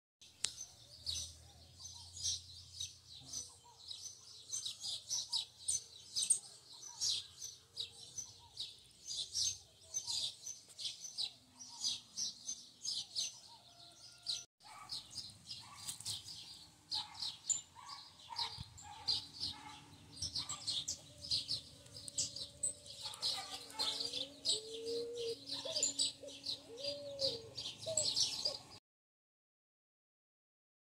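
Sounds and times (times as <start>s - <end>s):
small birds chirping: 0.2s - 28.8s.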